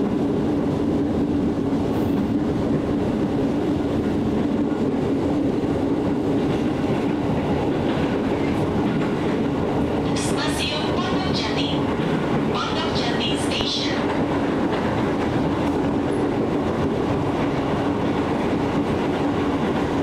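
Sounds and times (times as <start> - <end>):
low train hum: 0.0 - 20.0
train wheels rumbling on rails: 0.0 - 20.0.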